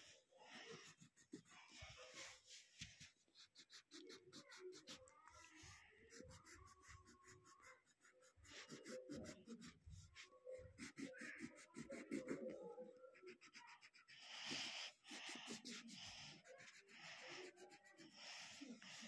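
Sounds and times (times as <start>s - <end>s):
pencil scribbling on paper: 0.0s - 19.0s.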